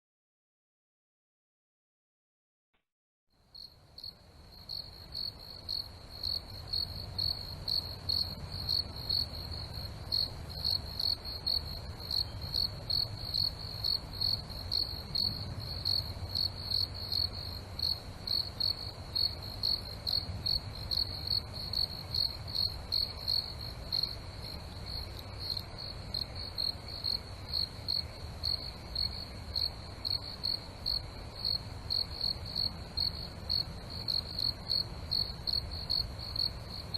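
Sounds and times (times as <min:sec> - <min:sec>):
cricket chirping: 0:03.4 - 0:36.9.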